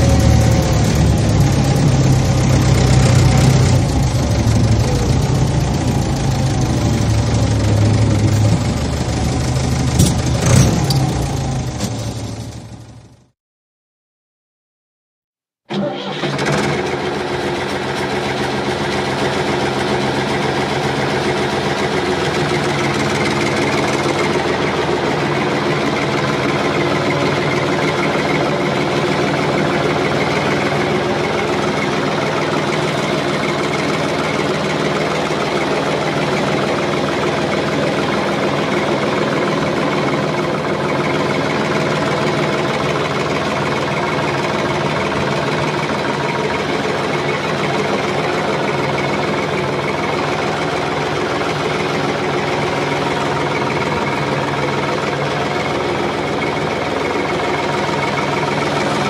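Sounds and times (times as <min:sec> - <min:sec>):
large engine running under load: 0:00.0 - 0:13.4, 0:15.7 - 0:59.0.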